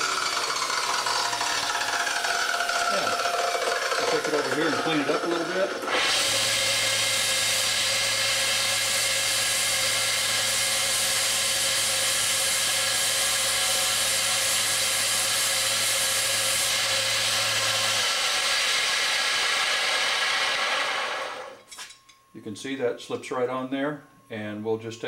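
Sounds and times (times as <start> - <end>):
belt sander motor hum: 0.0 - 21.6
steel grinding on belt: 0.0 - 22.1.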